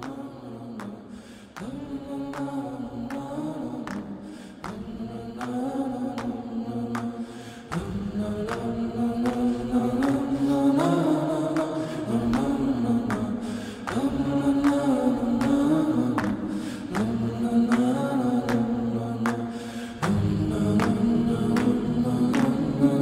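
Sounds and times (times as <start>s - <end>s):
light rhythmic taps: 0.0s - 23.0s
person singing slow melody: 0.0s - 23.0s.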